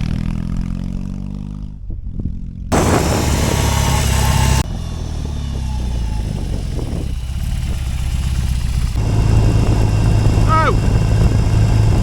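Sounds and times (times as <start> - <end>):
motorcycle engine deep exhaust: 0.0 - 12.0.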